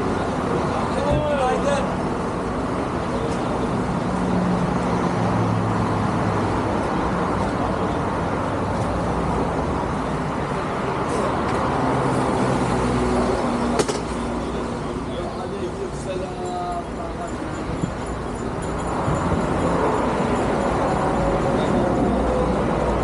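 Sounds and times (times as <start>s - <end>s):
road and wind noise: 0.0s - 23.0s.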